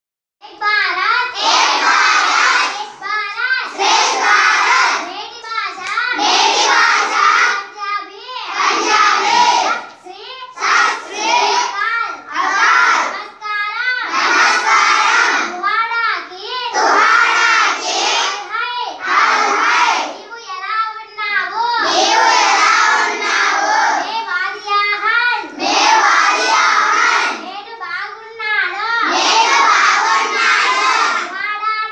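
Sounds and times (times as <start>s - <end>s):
child reading out phrases: 0.4s - 31.9s
children reciting in unison: 0.4s - 31.9s.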